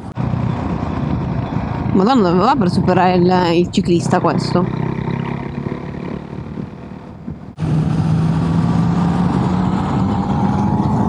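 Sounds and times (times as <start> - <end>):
motorcycle engine: 0.0 - 11.0
wind noise: 0.0 - 11.0.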